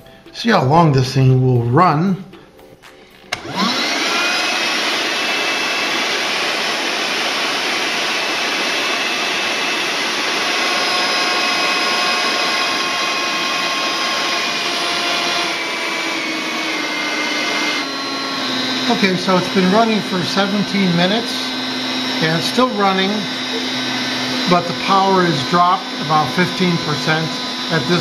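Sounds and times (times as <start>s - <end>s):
handheld vacuum running: 3.1s - 28.0s.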